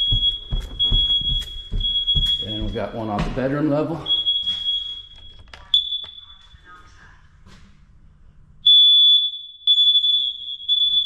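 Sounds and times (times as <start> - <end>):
smoke alarm beeping: 0.0 - 6.6, 8.6 - 11.0.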